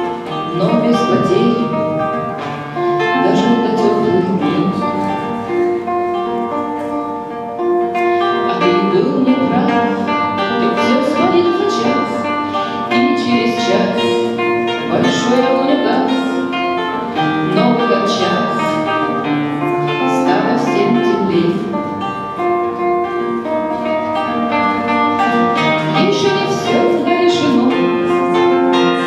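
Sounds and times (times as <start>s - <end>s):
acoustic guitar playing: 0.0s - 29.0s.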